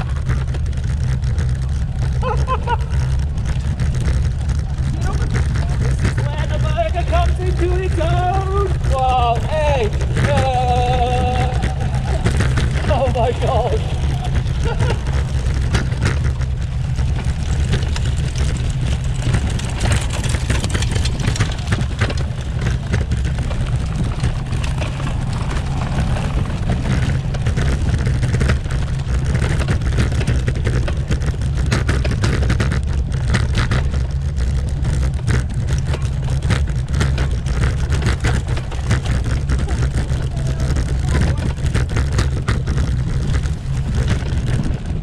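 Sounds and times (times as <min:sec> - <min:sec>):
bicycle rumbling over cobblestones: 0:00.0 - 0:45.0
bike clattering and rattling: 0:00.0 - 0:45.0.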